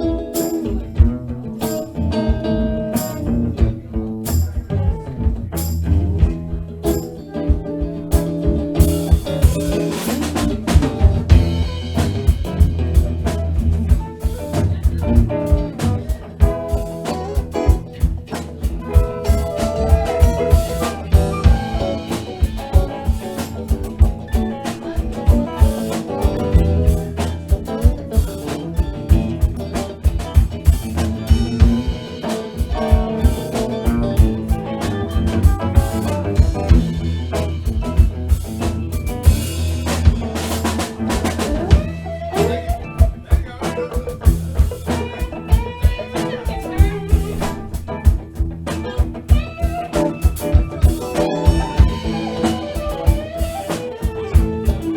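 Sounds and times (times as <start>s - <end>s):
live band playing boogie: 0.0s - 54.9s.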